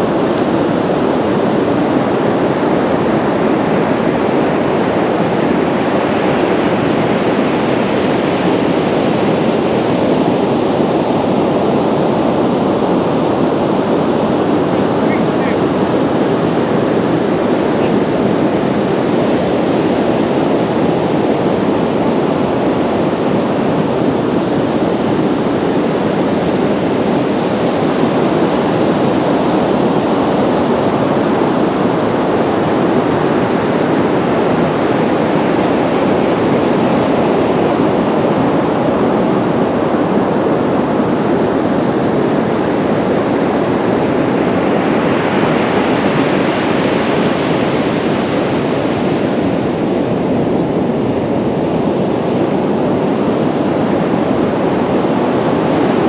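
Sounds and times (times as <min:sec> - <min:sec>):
sea surf breaking on a beach: 0:00.0 - 0:56.0.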